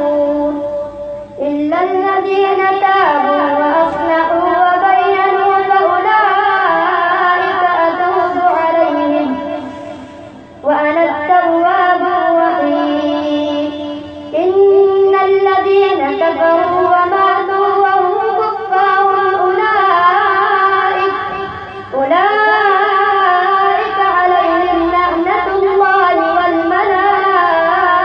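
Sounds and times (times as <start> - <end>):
boy chanting recitation: 0.0 - 28.0.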